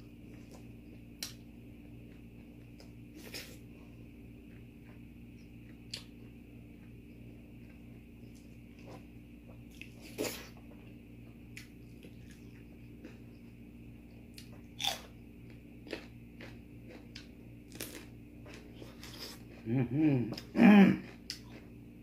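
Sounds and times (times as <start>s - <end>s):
food being bitten and chewed: 0.0s - 22.0s
steady low hum: 0.0s - 22.0s.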